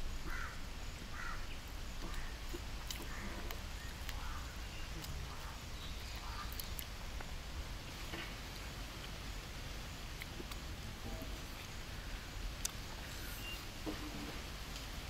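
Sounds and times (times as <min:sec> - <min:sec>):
birds calling: 0:00.0 - 0:14.5.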